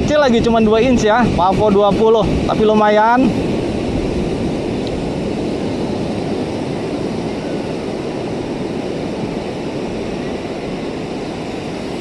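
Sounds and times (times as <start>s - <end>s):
sea wind: 0.0s - 12.0s
surf at the shore: 0.0s - 12.0s.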